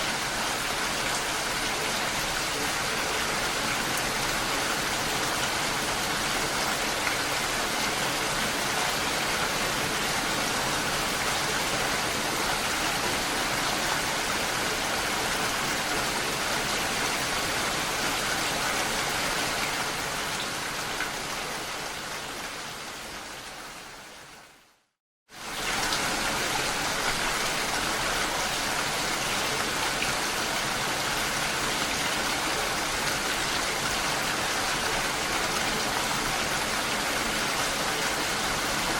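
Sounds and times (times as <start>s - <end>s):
rain falling on a lake: 0.0s - 38.9s.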